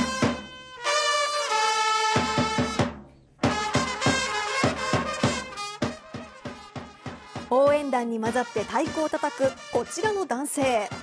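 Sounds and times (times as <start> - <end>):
drums beating: 0.0 - 0.7, 1.3 - 11.0
trumpets playing cheer melody: 0.0 - 2.8, 3.5 - 11.0.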